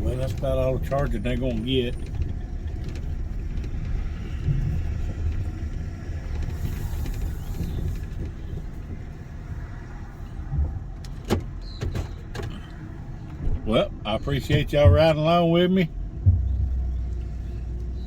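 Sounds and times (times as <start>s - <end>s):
car cabin rumble on bumpy road: 0.0s - 18.0s.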